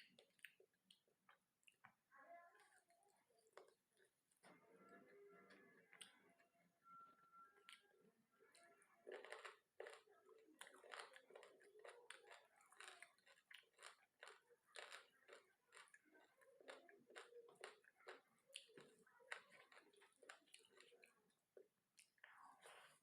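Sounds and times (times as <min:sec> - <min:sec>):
chewing crunchy food: 0:00.0 - 0:04.4, 0:07.6 - 0:23.0.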